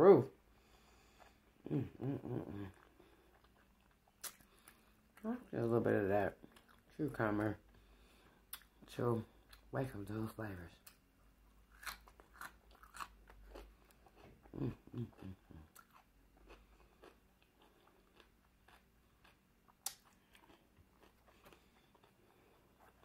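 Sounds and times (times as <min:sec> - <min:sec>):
chewing crunchy cucumber: 0:01.1 - 0:07.7, 0:10.8 - 0:23.0.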